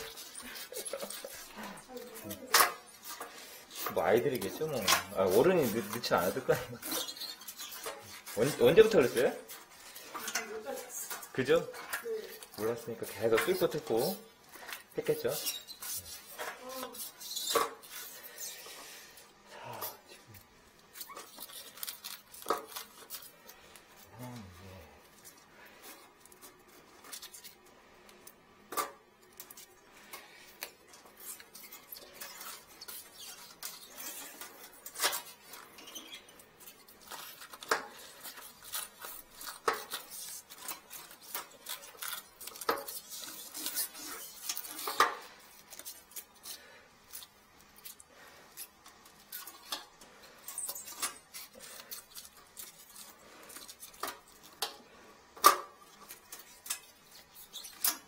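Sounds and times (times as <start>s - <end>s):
wire tool scraping in porcelain toilet: 0.0s - 19.2s, 28.7s - 58.0s.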